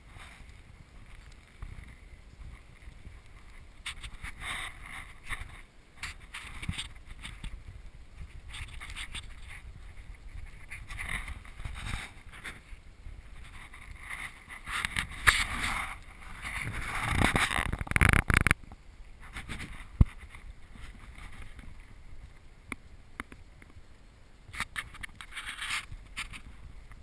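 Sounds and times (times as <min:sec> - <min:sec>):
wind on microphone: 0:00.0 - 0:23.9.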